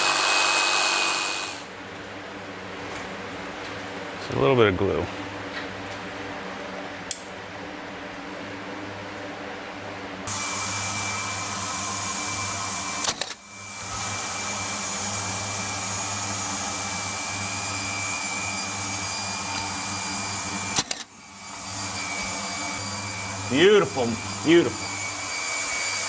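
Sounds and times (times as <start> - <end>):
machine hum with high whine: 0.0 - 26.0.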